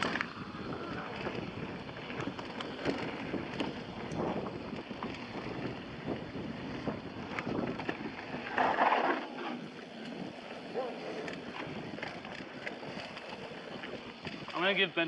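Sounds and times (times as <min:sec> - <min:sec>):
bike clicks and rattles: 0:00.0 - 0:15.0
tyres rolling on dirt: 0:00.0 - 0:15.0
wind rushing over microphone: 0:00.0 - 0:15.0.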